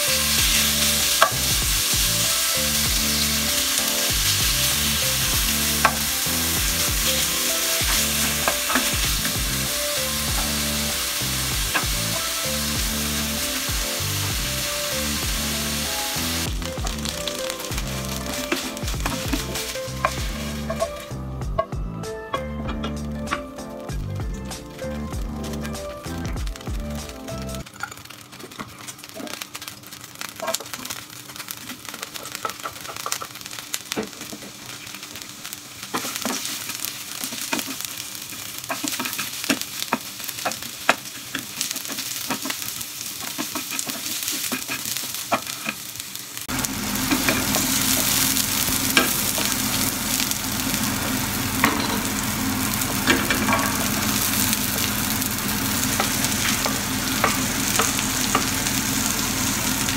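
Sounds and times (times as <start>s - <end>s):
onion and garlic sizzling in oil: 0.0s - 59.9s.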